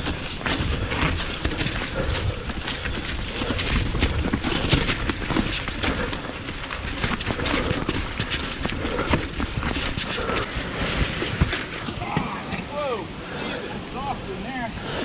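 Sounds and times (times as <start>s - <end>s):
bike tyres on muddy trail: 0.0s - 15.0s.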